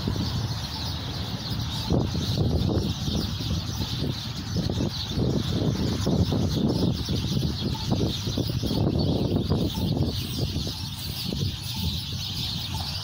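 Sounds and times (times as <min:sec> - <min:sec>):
flock of birds chattering: 0:00.0 - 0:13.0.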